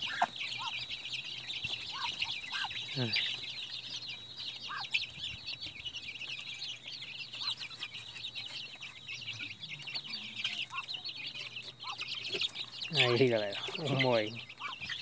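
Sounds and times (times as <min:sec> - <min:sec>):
chicks and ducklings peeping: 0:00.0 - 0:15.0
lower bird calls: 0:00.0 - 0:15.0.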